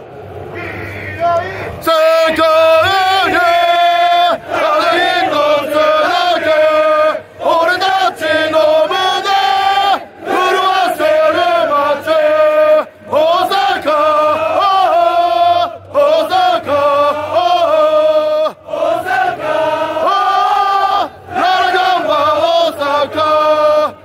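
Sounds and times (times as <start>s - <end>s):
men chanting: 0.6s - 24.0s.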